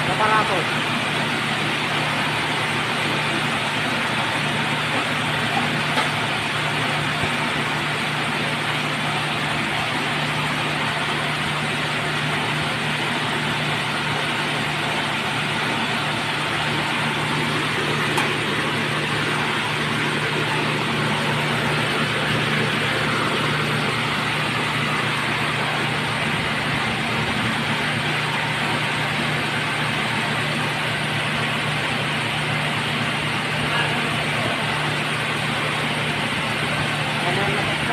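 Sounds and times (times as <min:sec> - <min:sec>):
rice milling machine running: 0:00.0 - 0:37.9.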